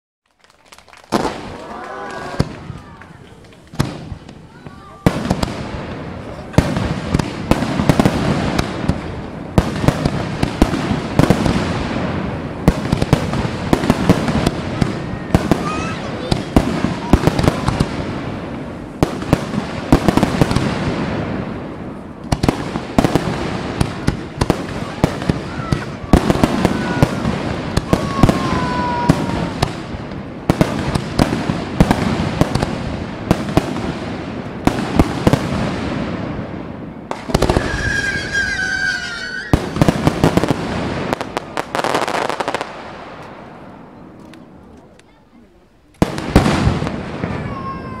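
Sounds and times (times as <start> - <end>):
fireworks bangs and crackles: 0.2 - 48.0.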